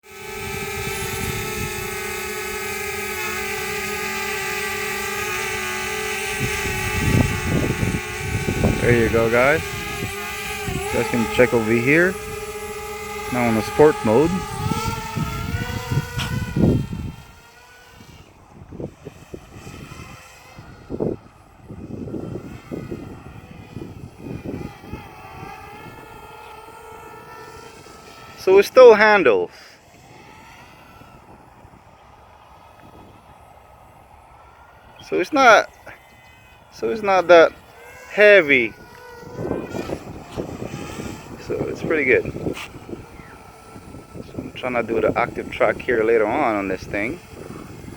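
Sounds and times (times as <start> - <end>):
drone propeller whine: 0.0 - 47.9
low rumbling bursts: 0.3 - 29.3, 30.1 - 47.9.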